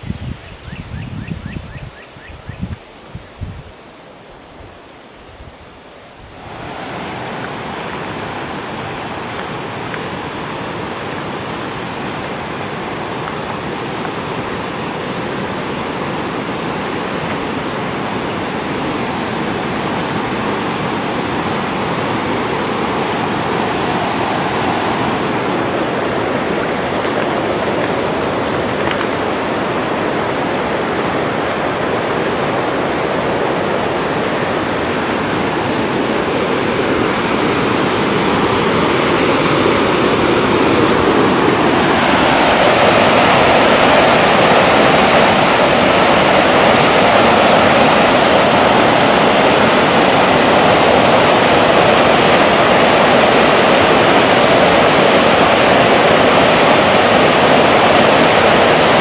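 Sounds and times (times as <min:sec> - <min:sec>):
river rapids rushing: 0:03.7 - 0:59.0.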